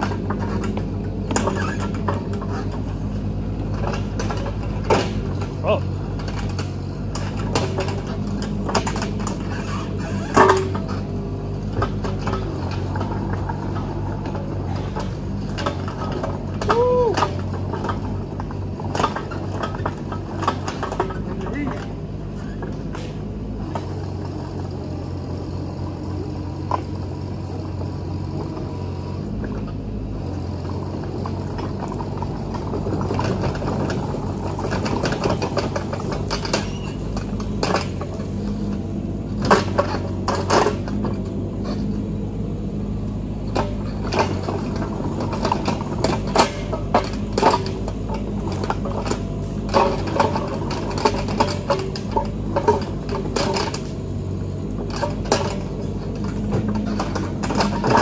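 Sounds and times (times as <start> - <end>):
sharp knocks and clanks: 0.0 - 24.4, 30.8 - 42.0, 43.4 - 58.0
diesel engine running: 0.0 - 58.0.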